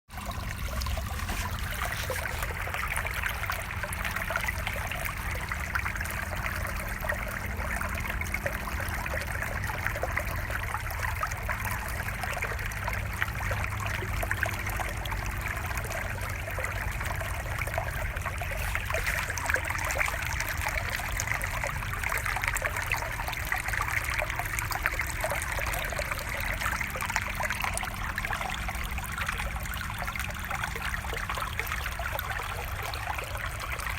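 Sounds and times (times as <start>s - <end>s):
running water trickling: 0.1s - 33.9s.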